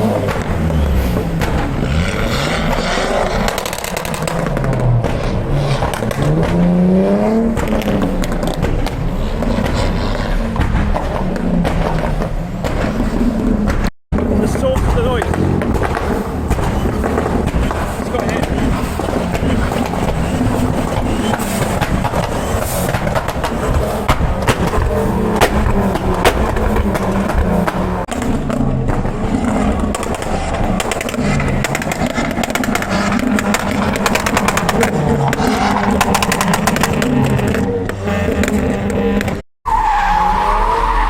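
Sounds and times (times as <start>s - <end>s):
car exhaust popping and crackling: 0.0s - 41.0s
engine revving: 0.0s - 41.0s.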